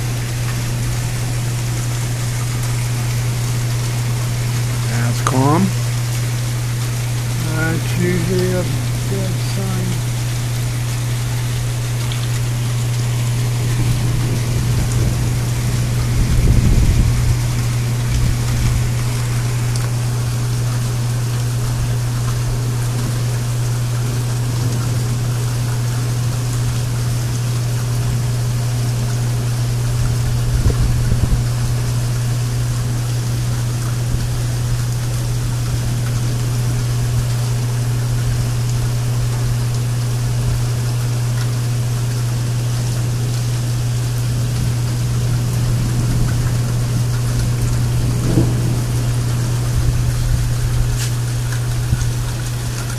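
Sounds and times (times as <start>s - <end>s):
constant low hum: 0.0s - 52.9s
heavy rain falling: 0.0s - 52.9s.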